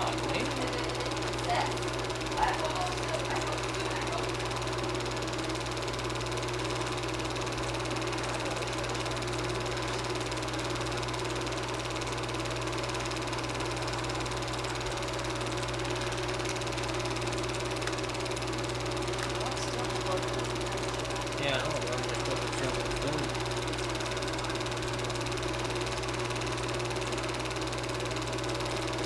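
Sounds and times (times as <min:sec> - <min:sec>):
film projector whirring: 0:00.0 - 0:29.0.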